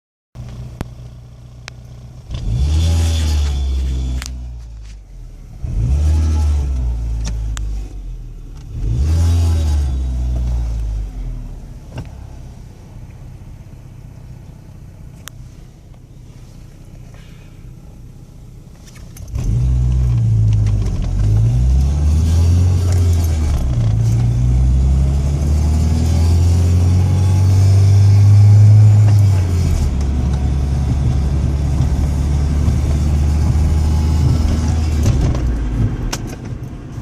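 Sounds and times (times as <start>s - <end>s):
car engine idling and revving: 0.4s - 37.0s.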